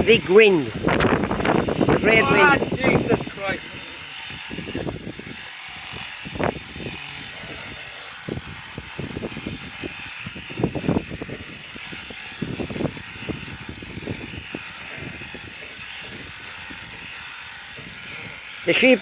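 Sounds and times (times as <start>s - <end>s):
wind and rain hiss: 0.0s - 19.0s
wind buffeting microphone: 0.0s - 19.0s.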